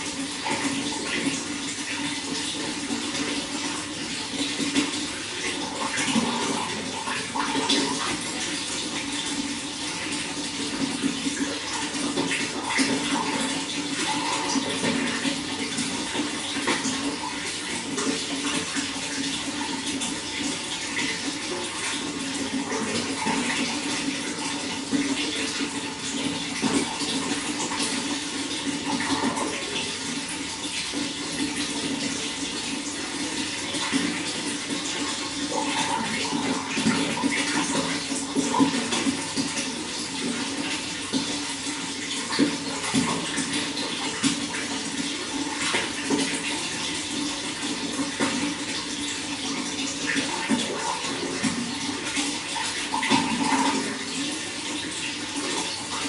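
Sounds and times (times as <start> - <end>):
running water splashing and gurgling: 0.0 - 56.0.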